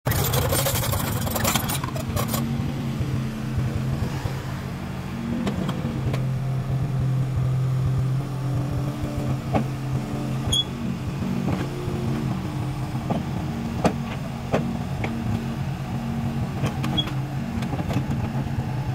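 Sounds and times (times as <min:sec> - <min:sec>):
diesel engine running under load: 0:00.1 - 0:18.9.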